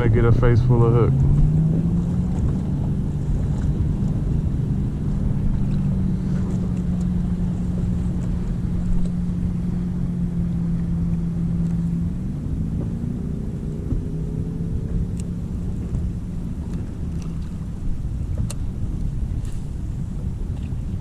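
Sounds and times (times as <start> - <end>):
boat motor running: 0.0 - 21.0
wind rumble on microphone: 0.0 - 21.0.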